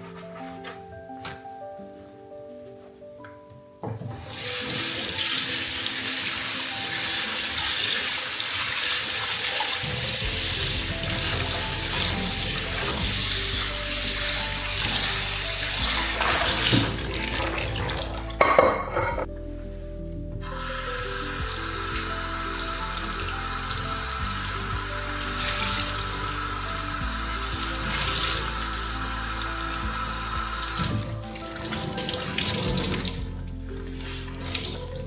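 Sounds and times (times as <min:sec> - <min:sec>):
water tap running into sink: 0:04.1 - 0:19.2, 0:20.5 - 0:35.0.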